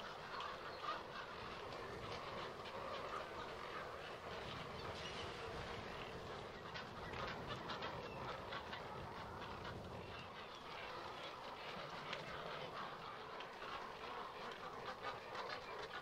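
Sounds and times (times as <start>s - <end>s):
waterbirds calling: 0.0s - 16.0s.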